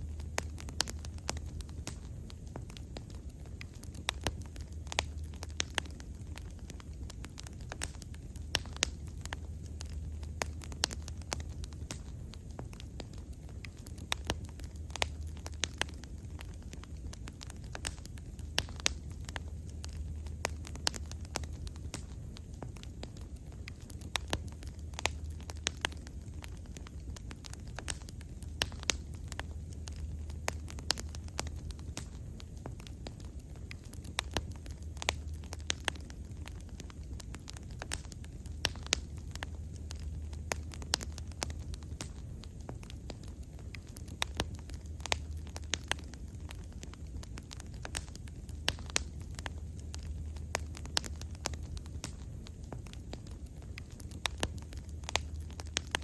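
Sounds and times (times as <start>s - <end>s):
bonfire crackling and popping: 0.0s - 56.0s
low rumble of flames: 0.0s - 56.0s.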